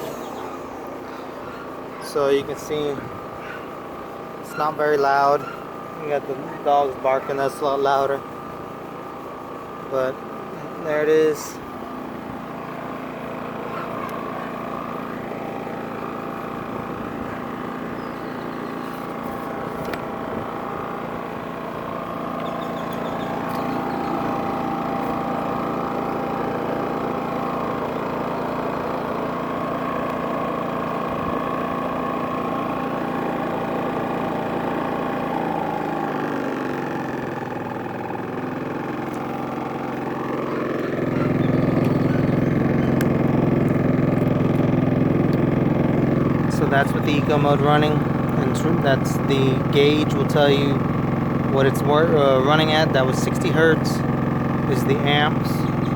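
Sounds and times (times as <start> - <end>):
generator engine running: 0.0 - 55.9.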